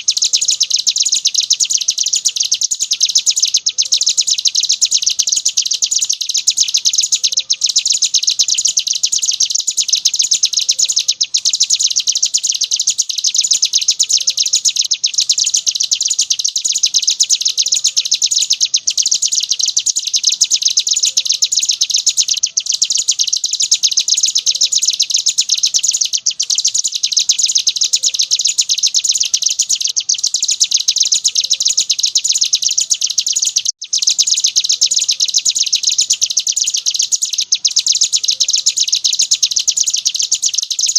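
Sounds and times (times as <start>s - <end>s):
bird singing high chattering trill: 0.0s - 40.9s.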